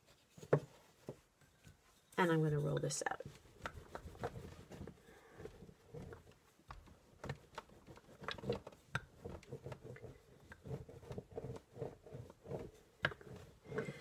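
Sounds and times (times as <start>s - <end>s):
rolling pin rolling clay: 0.0s - 14.0s.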